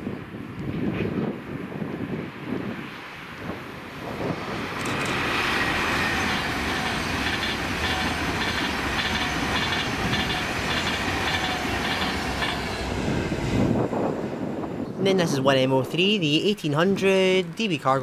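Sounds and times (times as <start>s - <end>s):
train passing at speed: 0.1s - 16.0s.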